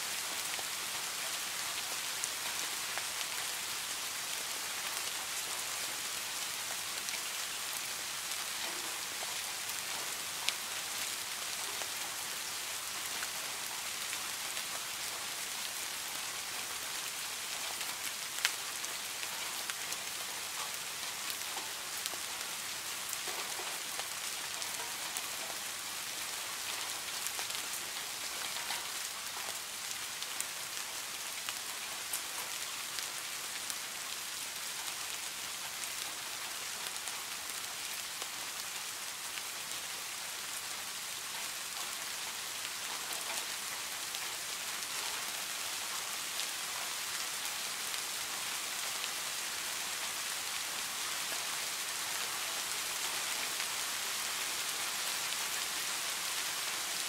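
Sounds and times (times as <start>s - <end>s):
rain falling on a pond: 0.0s - 57.0s.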